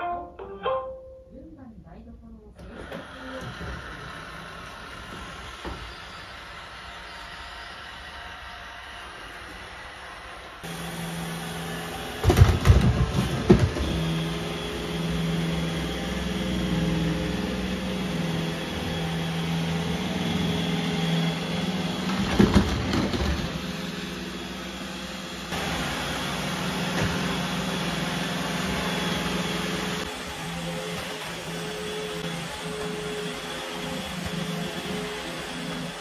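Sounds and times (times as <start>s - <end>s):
robot vacuum humming: 2.6s - 36.0s.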